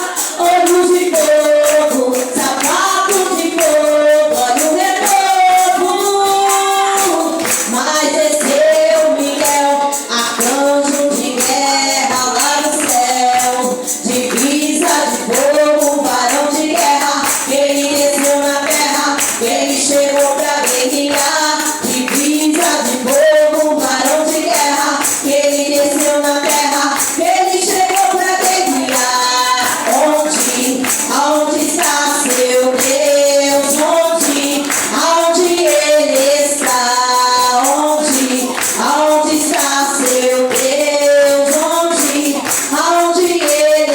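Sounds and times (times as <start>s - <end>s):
group and congregation singing: 0.0s - 43.9s
tambourine beat: 0.0s - 43.9s.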